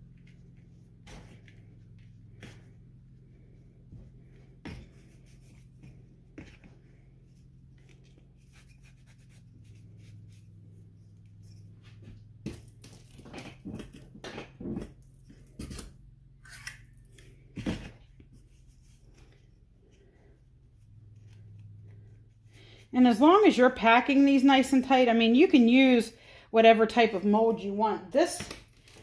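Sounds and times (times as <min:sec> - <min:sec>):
scraping and rustling by hand: 0:00.0 - 0:23.4.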